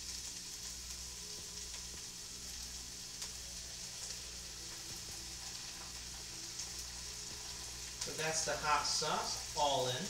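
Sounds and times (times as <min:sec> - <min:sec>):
food sizzling in frying pan: 0:00.0 - 0:10.0.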